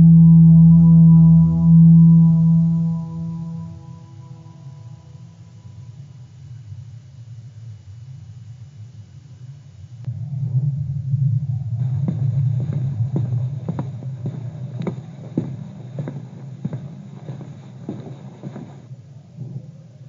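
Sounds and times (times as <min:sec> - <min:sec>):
low droning rumble: 0:00.0 - 0:08.2, 0:09.0 - 0:20.0.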